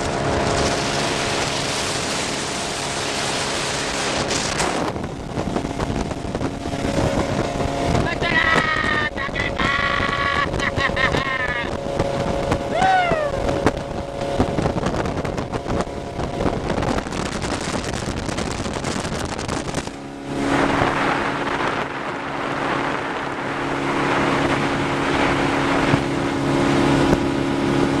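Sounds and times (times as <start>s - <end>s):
motorboat engine running: 0.0s - 28.0s
rushing water: 0.0s - 28.0s
wind buffeting microphone: 0.0s - 28.0s.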